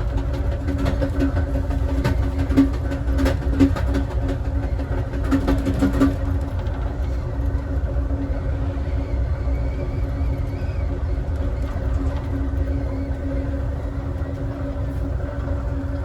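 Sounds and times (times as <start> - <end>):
constant hum: 0.0 - 16.0
train car rumbling on rails: 0.0 - 16.0.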